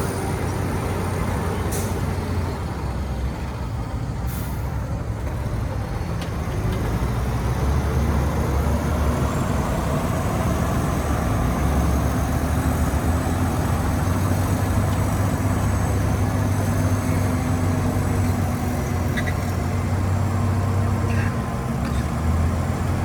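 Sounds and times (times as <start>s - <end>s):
heavy machinery diesel engine drone: 0.0s - 23.0s.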